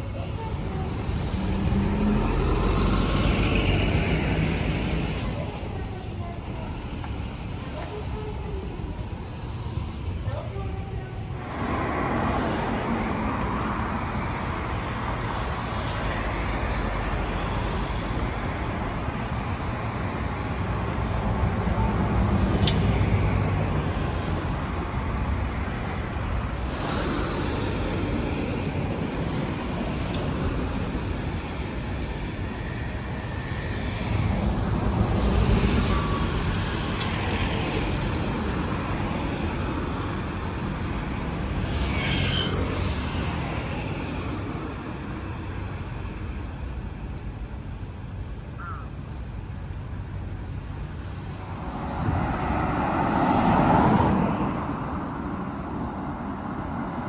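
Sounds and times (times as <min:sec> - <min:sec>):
vehicles passing on street: 0:00.0 - 0:57.0.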